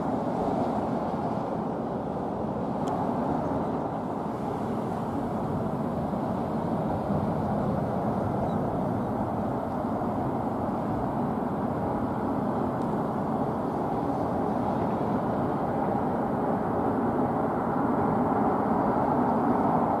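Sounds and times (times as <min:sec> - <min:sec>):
distant city traffic rumble: 0:00.0 - 0:20.0.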